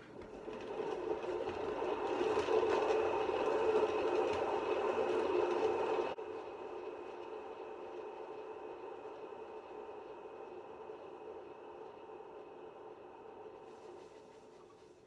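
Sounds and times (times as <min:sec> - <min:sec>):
paint spinner motor whirring: 0:00.0 - 0:15.0.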